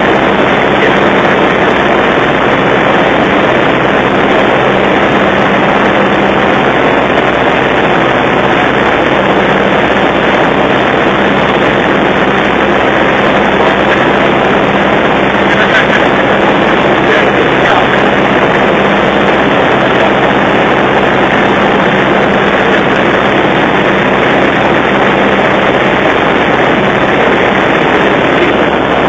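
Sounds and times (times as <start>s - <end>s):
light aircraft engine droning: 0.0s - 29.0s.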